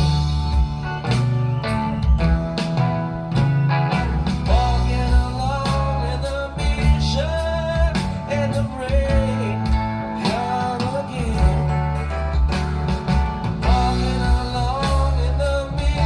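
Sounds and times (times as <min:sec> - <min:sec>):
rock song through speakers: 0:00.0 - 0:16.0.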